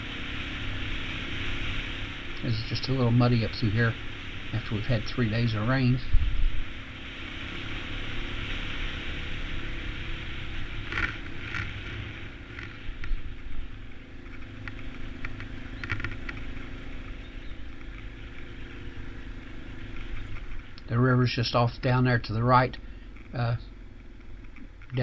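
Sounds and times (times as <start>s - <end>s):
motorcycle engine running: 0.0s - 25.0s
steady hiss: 0.0s - 25.0s.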